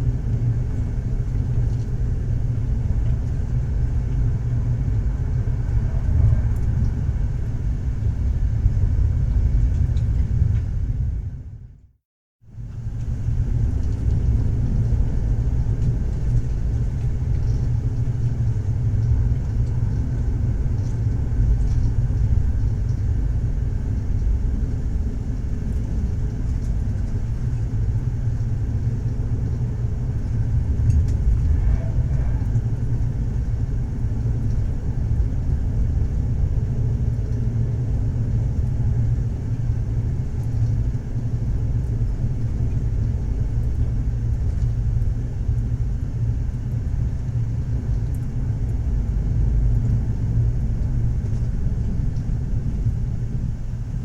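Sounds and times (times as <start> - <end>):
train wheels rumbling on track: 0.0 - 11.6, 12.6 - 54.0.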